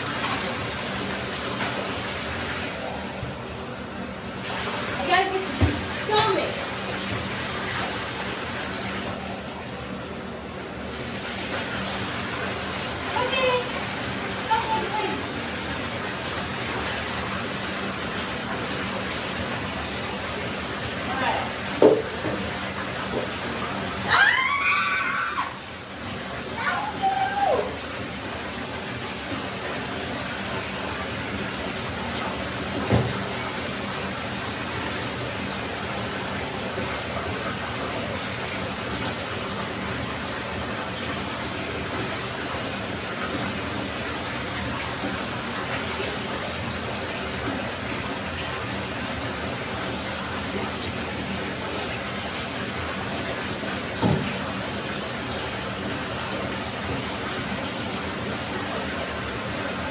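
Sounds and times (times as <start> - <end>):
running water in a bathtub: 0.0 - 59.9.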